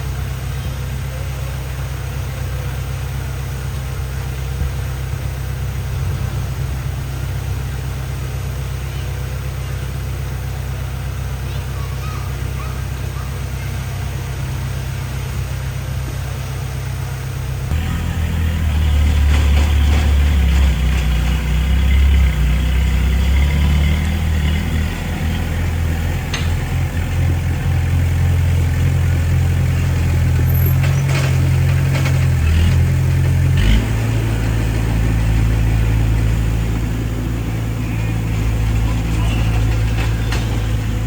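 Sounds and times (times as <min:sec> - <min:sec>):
heavy diesel engine under load: 0:00.0 - 0:41.0.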